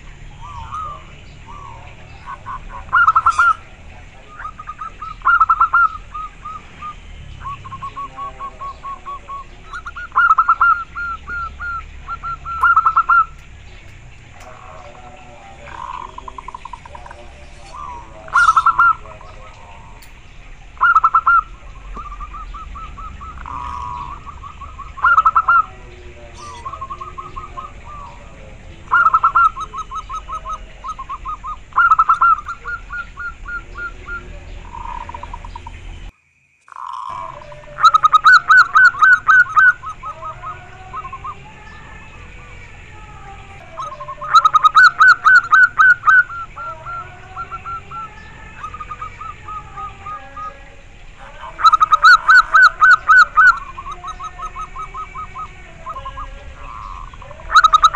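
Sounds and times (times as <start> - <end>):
dove cooing: 0.0 - 36.1, 36.7 - 57.9.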